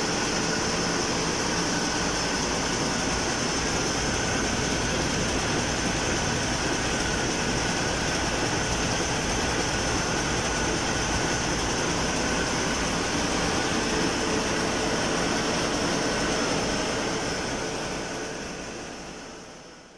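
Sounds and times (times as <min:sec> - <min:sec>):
diesel engine room din: 0:00.0 - 0:19.6.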